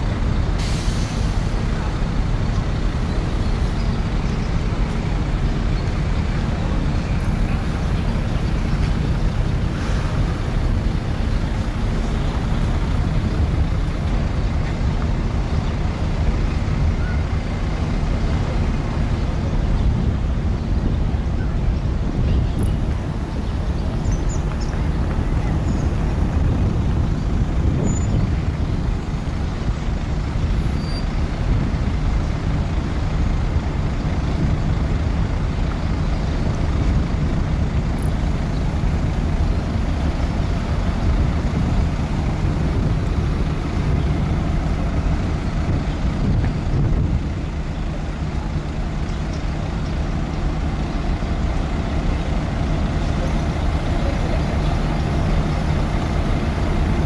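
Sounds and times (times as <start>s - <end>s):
marine diesel engines rumbling: 0.0s - 57.0s.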